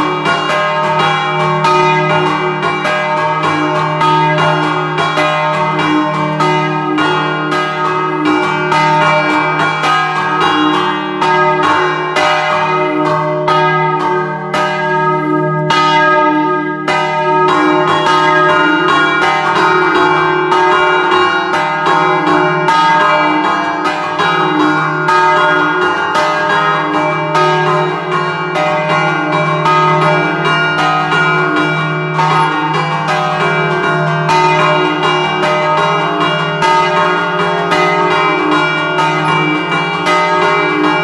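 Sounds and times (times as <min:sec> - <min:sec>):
church bells struck rhythmically: 0:00.0 - 0:41.0.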